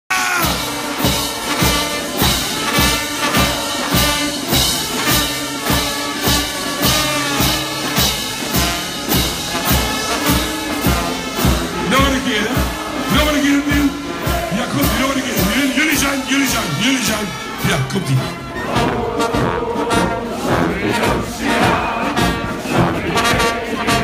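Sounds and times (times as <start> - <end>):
bass drum beat: 0.1 - 24.0
brass band playing: 0.1 - 24.0.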